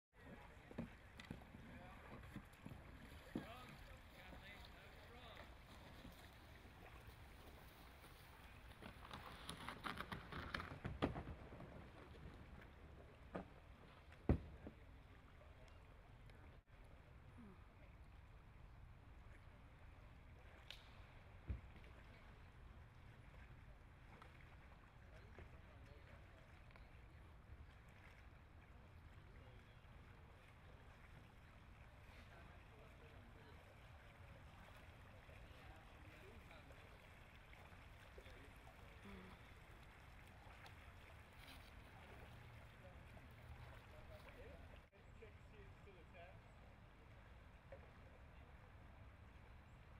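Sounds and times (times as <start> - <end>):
paddle splashes and drips: 0.1 - 45.6
low river rumble: 0.2 - 49.9.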